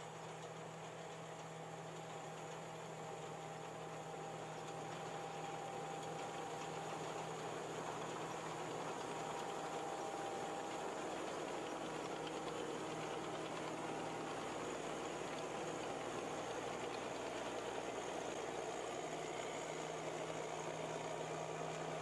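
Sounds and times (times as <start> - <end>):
combine harvester running: 0.1 - 22.0.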